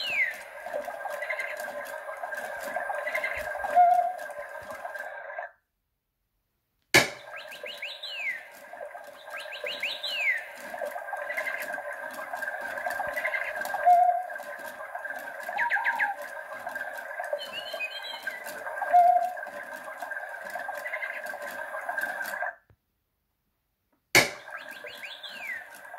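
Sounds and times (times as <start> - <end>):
toy electronic bird calls: 0.0 - 5.5, 7.2 - 22.6, 24.4 - 25.9.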